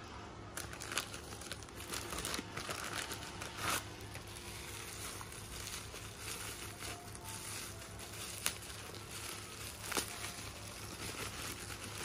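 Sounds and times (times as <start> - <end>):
plastic packaging crinkling: 0.5 - 12.0.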